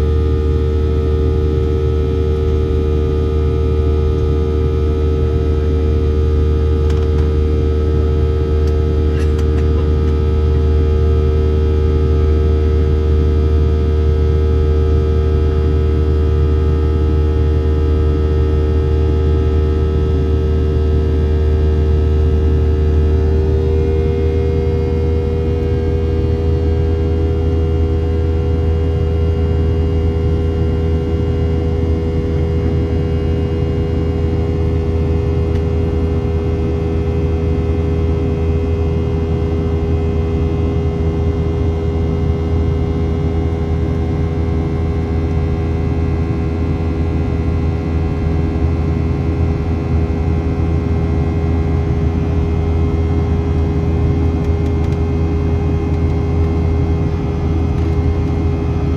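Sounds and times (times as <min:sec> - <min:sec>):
airplane cabin jet engine drone: 0:00.0 - 0:58.9.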